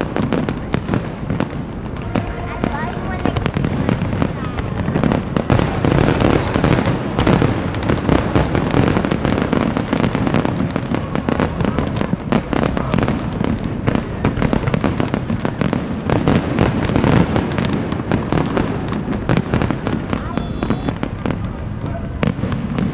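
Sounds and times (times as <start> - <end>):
fireworks bursting and crackling: 0.0 - 22.9.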